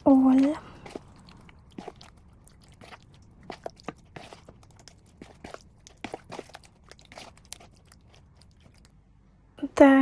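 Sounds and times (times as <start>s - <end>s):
meat mixed by hand: 0.0s - 9.0s.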